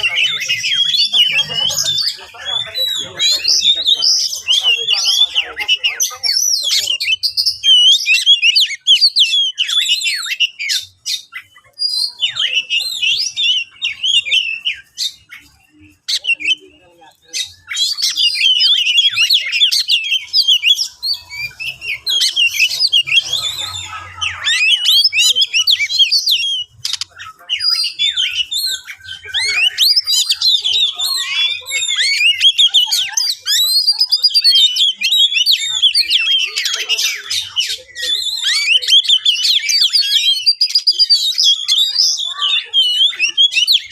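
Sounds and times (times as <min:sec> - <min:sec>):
bird singing varied song: 0:00.0 - 0:43.9.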